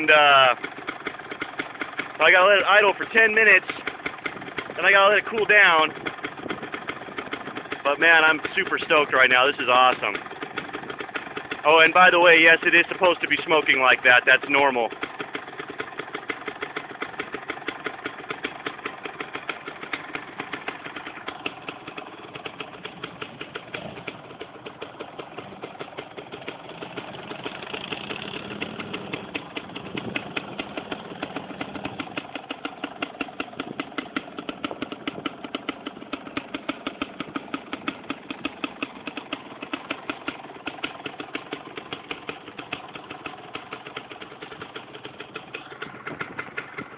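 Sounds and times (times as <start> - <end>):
two-stroke engine idling: 0.0 - 46.9.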